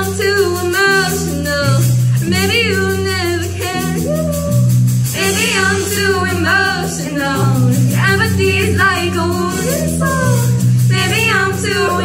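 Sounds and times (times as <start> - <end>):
bass guitar: 0.0 - 12.0
drums: 0.0 - 12.0
electric guitars: 0.0 - 12.0
people singing: 0.0 - 12.0.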